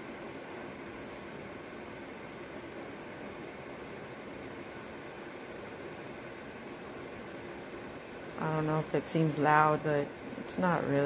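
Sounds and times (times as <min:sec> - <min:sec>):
fan heater blower running: 0:00.0 - 0:11.0.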